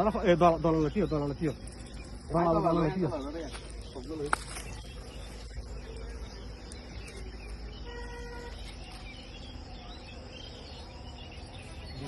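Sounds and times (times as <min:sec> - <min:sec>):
faint chirps: 0:00.0 - 0:12.0.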